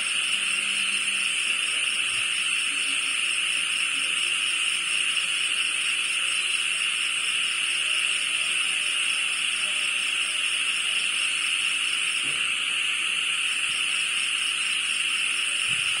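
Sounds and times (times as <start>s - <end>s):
night insects chirring: 0.0s - 16.0s.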